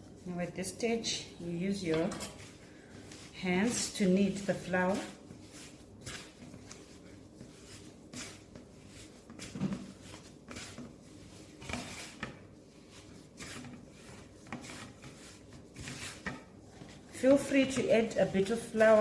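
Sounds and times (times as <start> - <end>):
hands kneading dough: 0.0 - 19.0.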